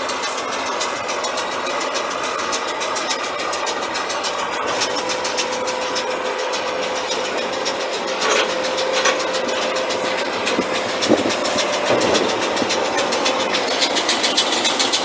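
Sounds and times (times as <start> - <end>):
fast ticking rattle: 0.0 - 15.0
steady whine: 0.0 - 15.0
tractor engine running: 0.0 - 15.0.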